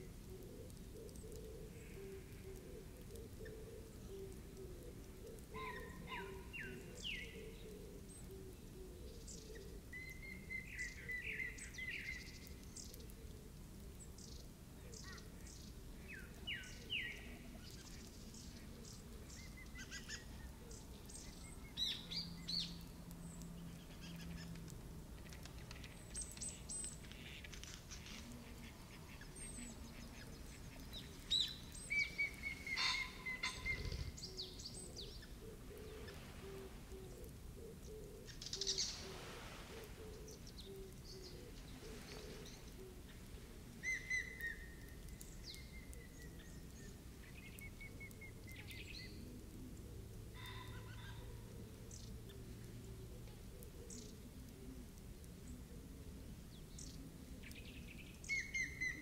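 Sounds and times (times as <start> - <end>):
birds chirping: 0.0 - 59.0
faint steady hiss: 0.0 - 59.0.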